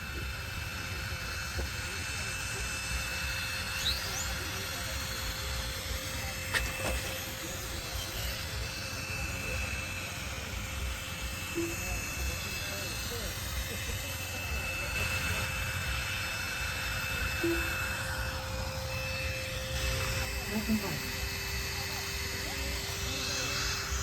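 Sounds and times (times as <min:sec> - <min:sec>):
rising whine: 0:00.0 - 0:24.0.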